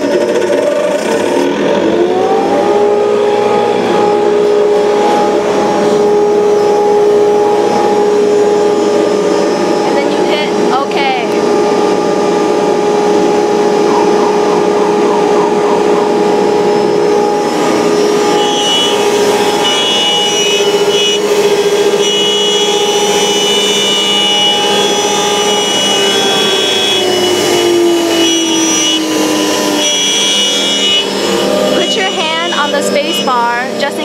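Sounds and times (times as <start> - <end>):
router cutting noise: 0.0 - 34.0
router spindle whine: 0.0 - 34.0.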